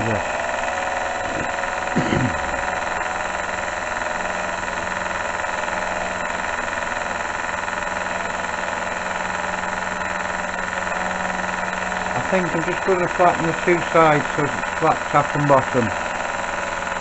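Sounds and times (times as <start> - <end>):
machine tool humming and whining: 0.0 - 17.0.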